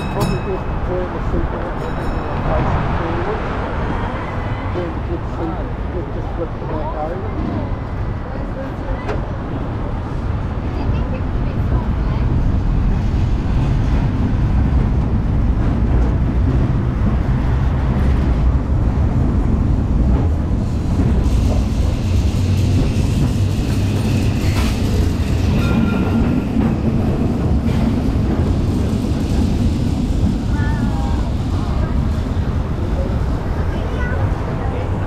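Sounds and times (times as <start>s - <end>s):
tram wheels rumbling on rails: 0.0s - 35.0s.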